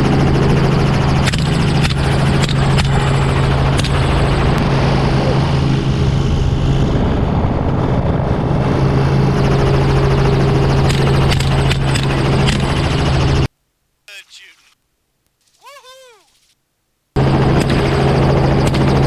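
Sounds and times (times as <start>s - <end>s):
helicopter engine and rotor: 0.0s - 13.5s, 17.2s - 19.0s.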